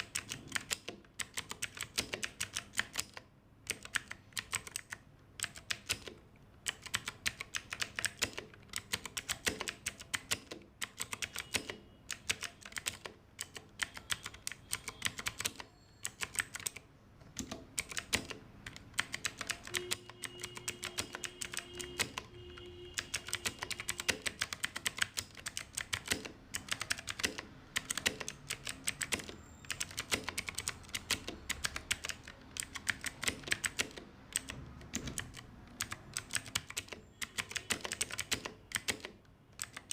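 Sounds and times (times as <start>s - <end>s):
clicky keyboard typing: 0.0s - 39.9s.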